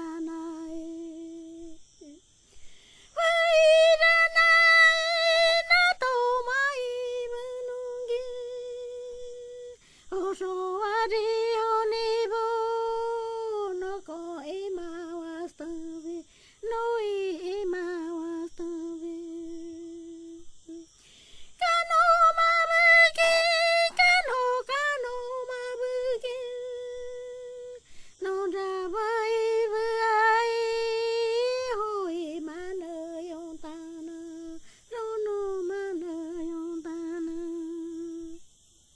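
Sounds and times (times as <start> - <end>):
woman singing unaccompanied: 0.0 - 2.3, 3.0 - 38.5.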